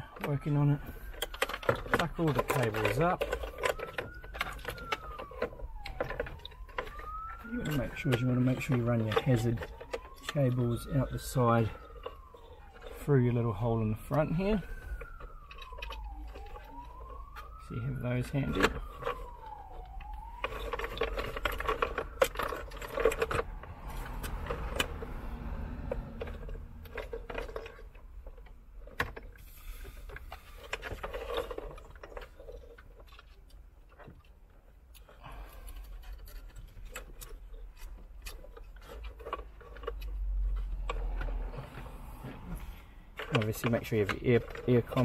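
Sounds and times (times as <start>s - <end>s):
distant siren wail: 0.0s - 34.1s, 34.9s - 45.0s
loose wiring rustling: 0.0s - 45.0s
plastic clicking and rattling: 0.0s - 45.0s.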